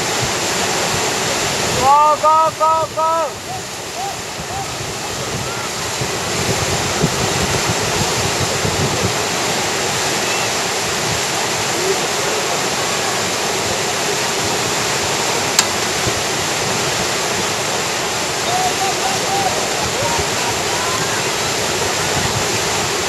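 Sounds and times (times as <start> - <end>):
whitewater rapids rushing: 0.0 - 23.0.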